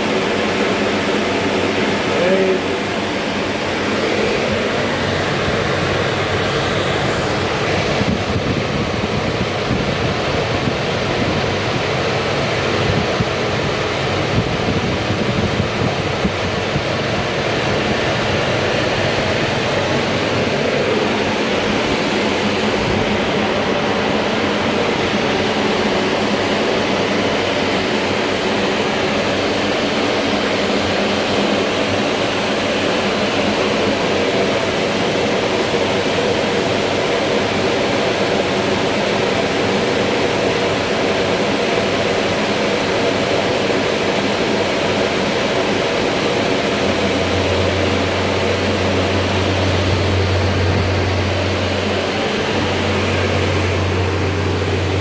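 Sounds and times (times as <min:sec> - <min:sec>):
refrigeration unit running: 0:00.0 - 0:55.0.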